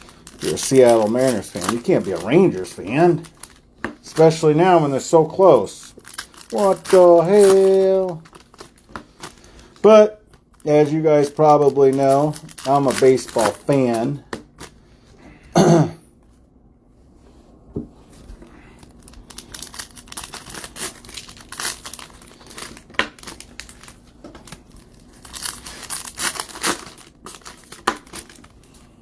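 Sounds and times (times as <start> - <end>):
plastic wrapping crinkling and tearing: 0.0 - 14.7, 18.8 - 29.0.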